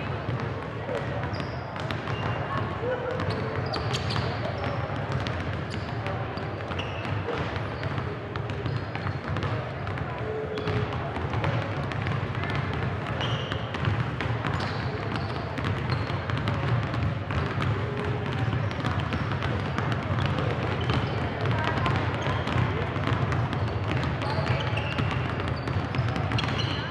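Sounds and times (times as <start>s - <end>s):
murmur of voices: 0.0s - 26.9s
basketballs bouncing on hardwood: 0.1s - 26.9s.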